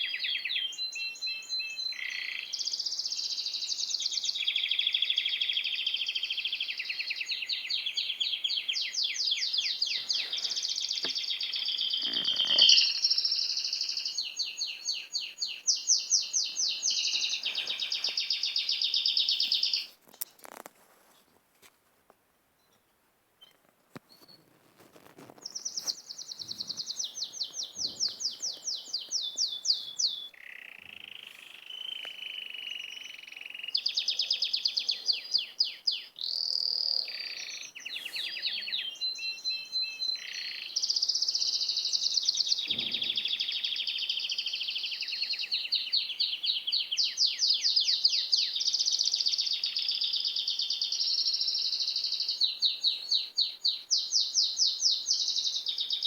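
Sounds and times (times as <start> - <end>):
songbirds chirping and trilling: 0.0 - 20.6, 22.6 - 56.0.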